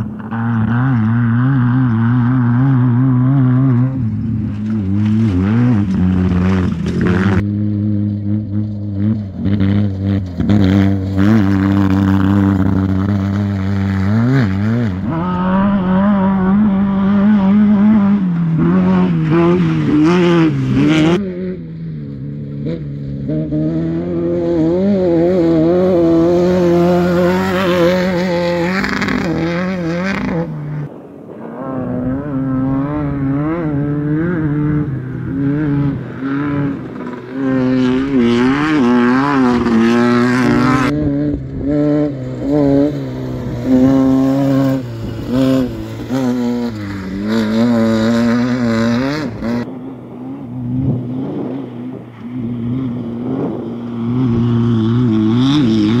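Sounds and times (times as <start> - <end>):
race buggy engines revving: 0.0 - 56.0.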